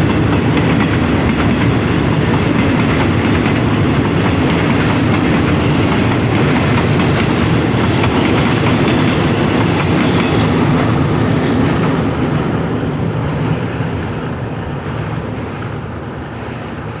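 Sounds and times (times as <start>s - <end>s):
train wheels clattering on bridge: 0.0s - 15.7s.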